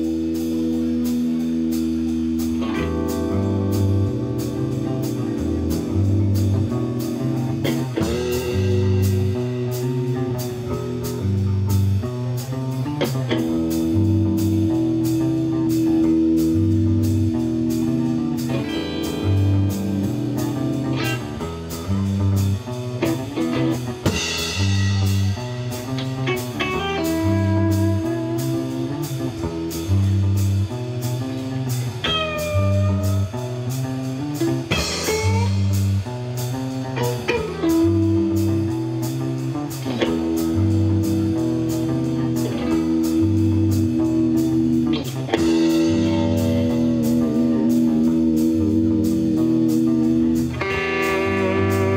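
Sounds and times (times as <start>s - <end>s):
drum kit steady beat: 0.0s - 51.9s
electric guitar with bent notes: 0.0s - 51.9s
repeating bass line: 2.6s - 51.9s.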